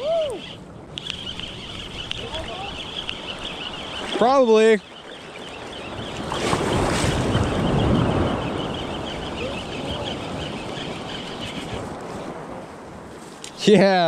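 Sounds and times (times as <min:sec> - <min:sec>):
ocean surf washing in: 0:00.6 - 0:14.0.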